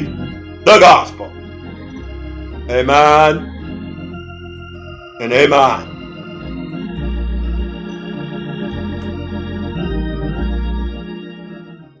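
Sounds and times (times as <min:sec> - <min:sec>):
organ music: 0:00.0 - 0:12.0.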